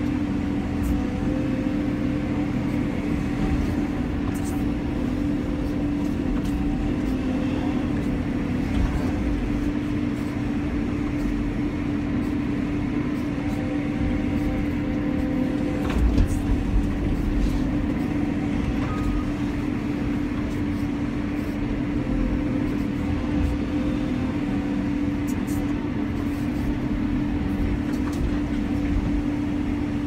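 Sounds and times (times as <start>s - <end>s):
excavator engine drone: 0.0s - 30.0s.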